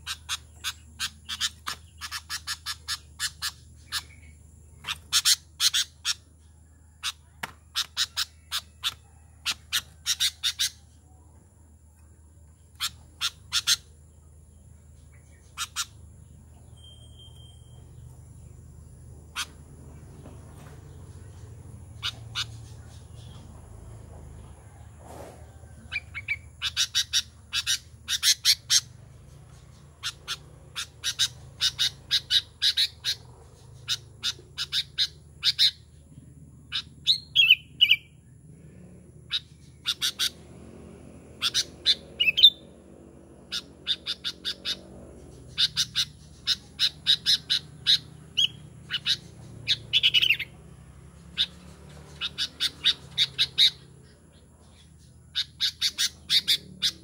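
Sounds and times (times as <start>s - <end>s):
bulbul chattering calls: 0.0s - 11.4s, 12.0s - 38.5s, 39.2s - 40.6s, 41.2s - 57.0s.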